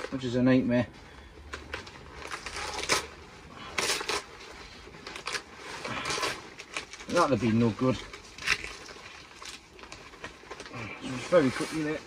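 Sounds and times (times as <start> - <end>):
leaves rustling and tearing: 2.0 - 12.0.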